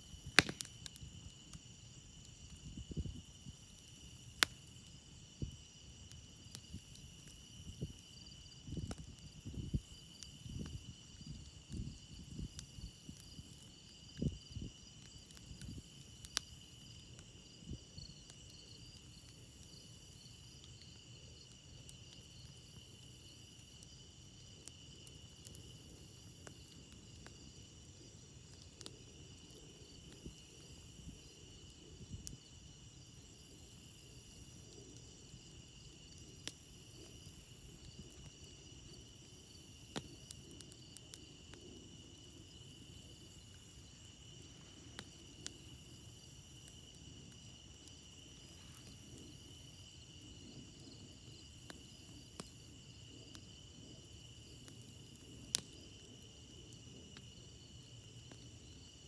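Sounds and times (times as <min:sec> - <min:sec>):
campfire crackling and popping: 0:00.0 - 0:59.0
crickets chirping: 0:00.0 - 0:59.0.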